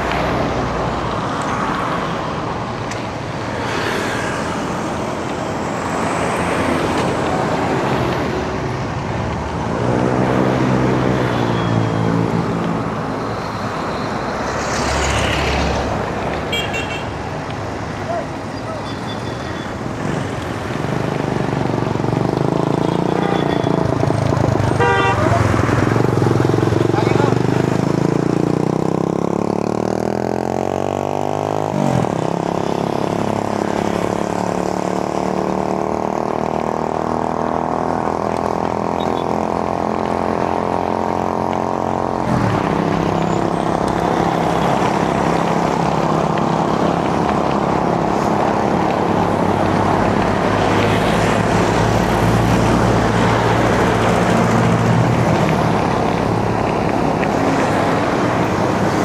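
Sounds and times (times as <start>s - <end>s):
road traffic noise: 0.0s - 59.0s.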